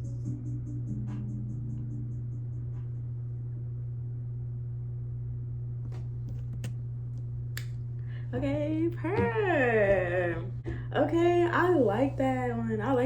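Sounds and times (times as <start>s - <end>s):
steady low bass tone: 0.0s - 13.0s.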